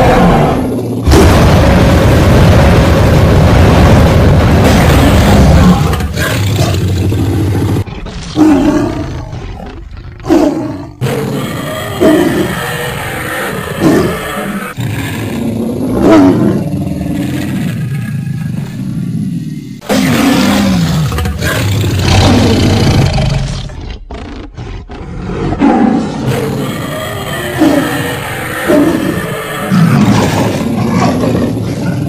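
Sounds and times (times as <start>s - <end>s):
cartoon lion roar: 0.0s - 32.0s.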